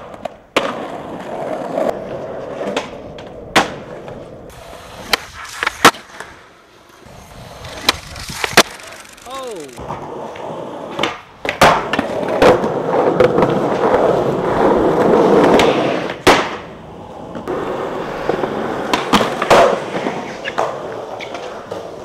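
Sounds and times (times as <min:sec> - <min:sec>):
skateboard pops and landing clacks: 0:00.0 - 0:06.5, 0:07.6 - 0:09.0, 0:09.8 - 0:14.1, 0:14.9 - 0:22.0
loud skateboard crack: 0:00.0 - 0:22.0
skateboard wheels rolling: 0:00.0 - 0:22.0.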